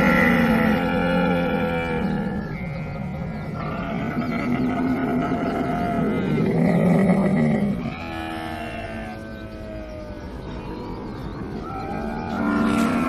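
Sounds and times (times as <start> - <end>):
camel calling: 0.0 - 13.0.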